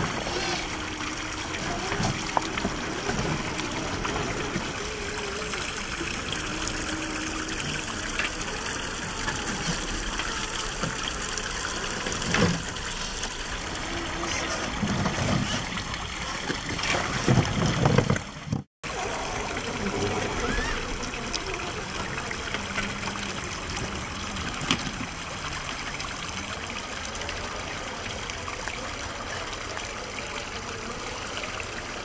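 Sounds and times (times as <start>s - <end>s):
running stream water: 0.0s - 32.0s.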